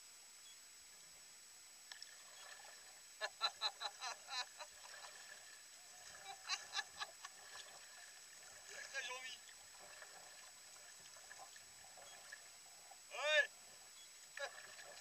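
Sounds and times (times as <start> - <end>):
kayak paddle splashing water: 1.9 - 15.0.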